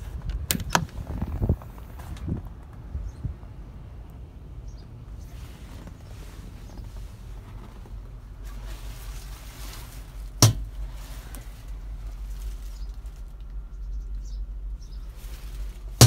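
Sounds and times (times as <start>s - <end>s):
faint handling noise: 0.0s - 3.4s, 4.8s - 16.0s
low steady rumble: 0.0s - 16.0s.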